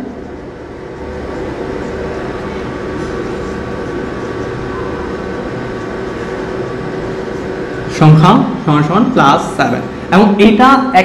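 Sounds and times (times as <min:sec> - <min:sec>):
fan hum and hiss: 0:00.0 - 0:11.0.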